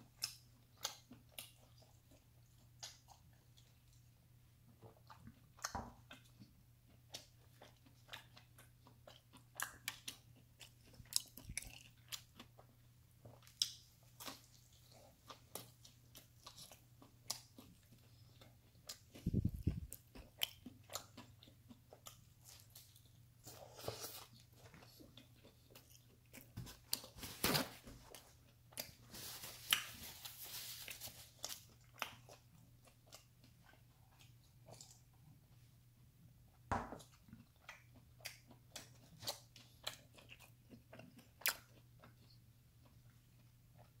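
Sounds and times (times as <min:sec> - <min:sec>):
crust crunching while chewing: 0:00.0 - 0:04.1, 0:04.7 - 0:27.2, 0:28.0 - 0:35.4, 0:37.0 - 0:44.0.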